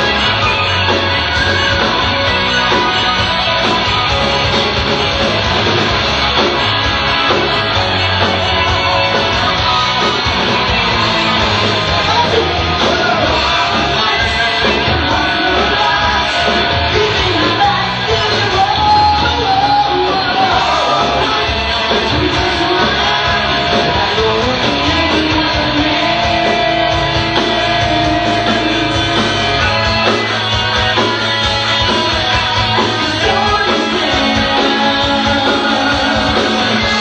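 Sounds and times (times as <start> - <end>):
drums: 0.0 - 37.0
electric guitars: 0.0 - 37.0
live rock band: 0.0 - 37.0.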